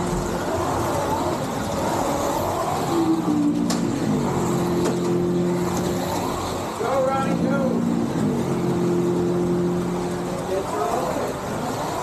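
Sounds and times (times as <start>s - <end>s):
slot car electric motors whining: 0.0s - 12.0s.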